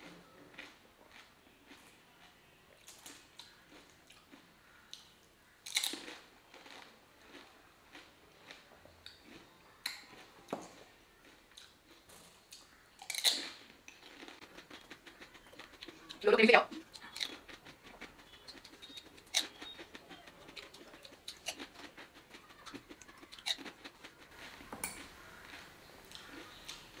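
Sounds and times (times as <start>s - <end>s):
crunchy food chewing: 0.0s - 27.0s.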